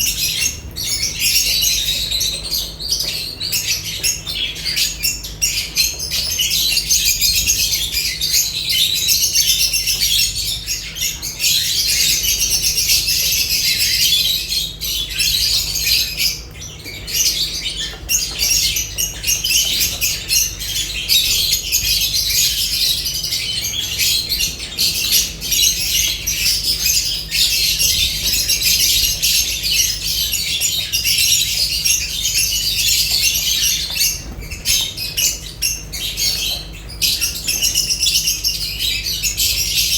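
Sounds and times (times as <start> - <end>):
birds chattering and chirping: 0.0 - 39.9.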